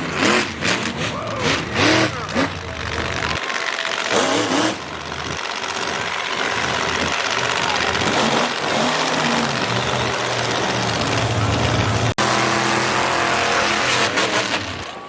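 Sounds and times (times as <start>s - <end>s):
monster truck engine running: 0.0s - 15.0s.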